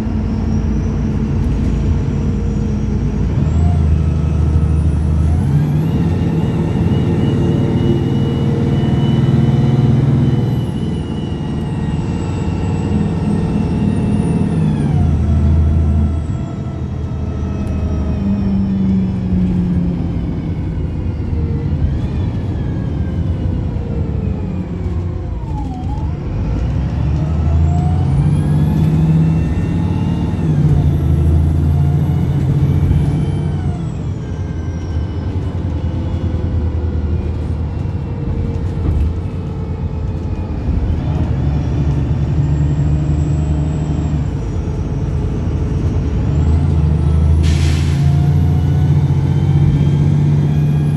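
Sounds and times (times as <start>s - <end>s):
bus engine revving: 0.0s - 50.9s.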